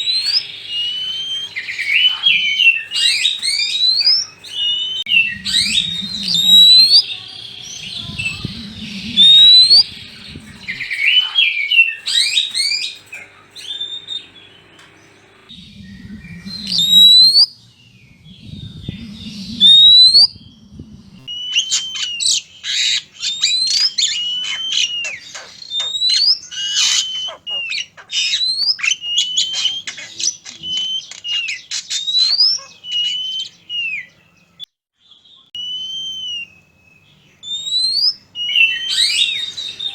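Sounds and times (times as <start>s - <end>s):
birds squawking harshly: 0.0s - 15.5s, 18.9s - 34.7s, 35.6s - 39.9s
birds whistling: 0.0s - 39.9s.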